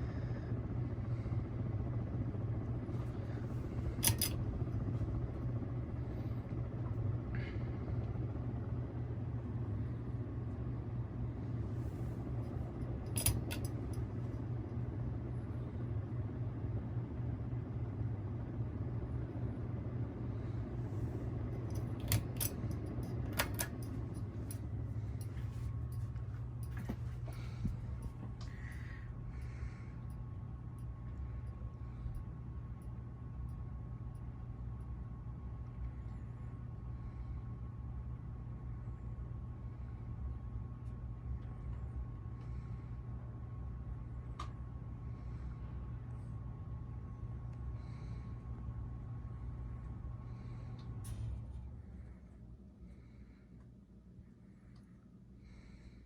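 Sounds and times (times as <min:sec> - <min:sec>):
ceiling fan motor hum: 0:00.0 - 0:56.0.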